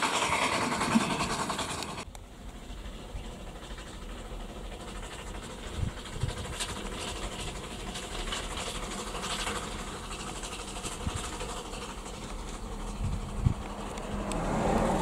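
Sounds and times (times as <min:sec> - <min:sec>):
steam coach running: 0:00.0 - 0:15.0
steam hiss: 0:00.0 - 0:15.0.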